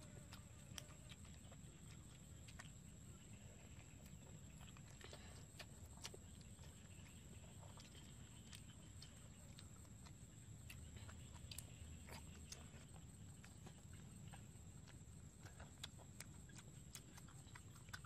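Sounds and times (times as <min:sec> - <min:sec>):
faint chewing and lip smacks: 0:00.0 - 0:18.0.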